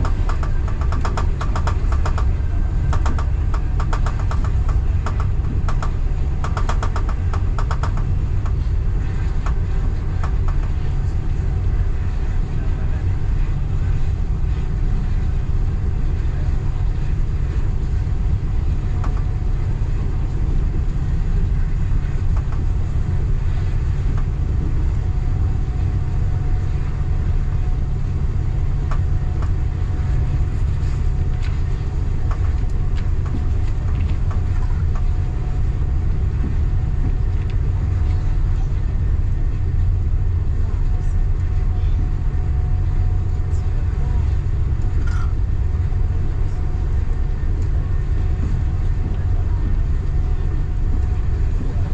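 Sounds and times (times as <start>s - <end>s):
train low rumble: 0.0s - 51.9s.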